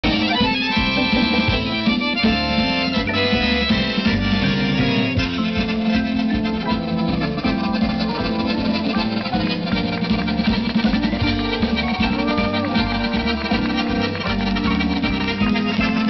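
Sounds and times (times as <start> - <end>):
accordion music over speakers: 0.0 - 16.0
low bass notes: 0.0 - 16.0.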